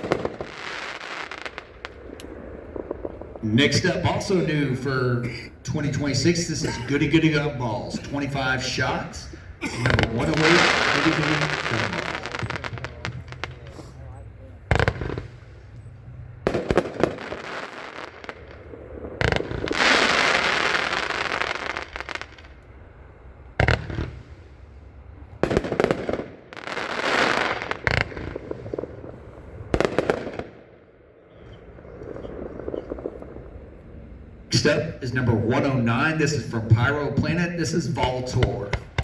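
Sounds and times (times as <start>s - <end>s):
dense fireworks crackling: 0.0s - 39.0s
fireworks bangs: 0.0s - 39.0s.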